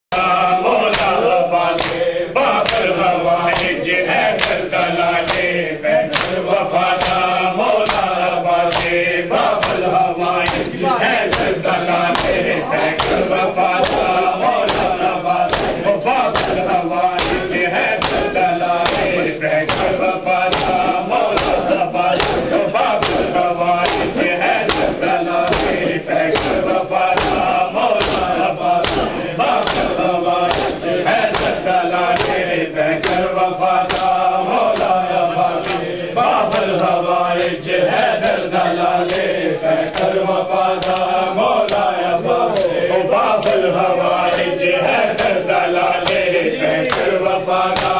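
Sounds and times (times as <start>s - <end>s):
men chanting in unison: 0.0s - 47.9s
hands slapping chests: 0.9s - 3.8s, 4.4s - 4.6s, 5.2s - 32.4s, 33.0s - 35.0s, 35.6s - 35.9s, 39.0s - 39.3s, 39.9s - 40.2s, 40.8s - 41.9s, 42.5s - 45.4s, 46.0s - 47.9s.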